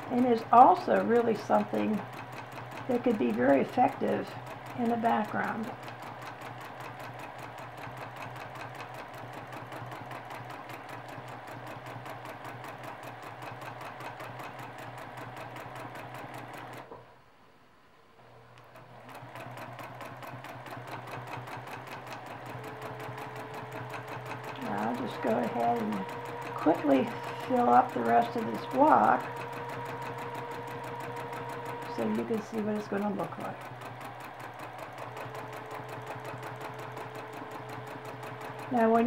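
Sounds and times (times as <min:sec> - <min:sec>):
sewing machine needle clattering: 0:00.0 - 0:16.9, 0:18.7 - 0:39.0
sewing machine motor hum: 0:00.0 - 0:17.0, 0:18.6 - 0:39.0.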